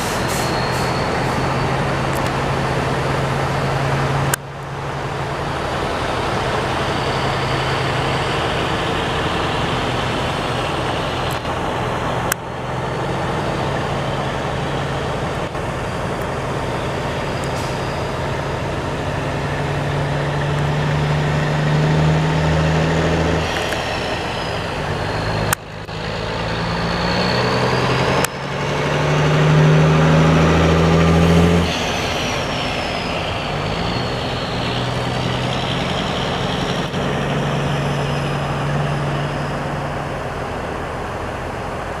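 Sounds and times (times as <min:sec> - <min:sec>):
truck diesel engine accelerating: 0:00.0 - 0:42.0.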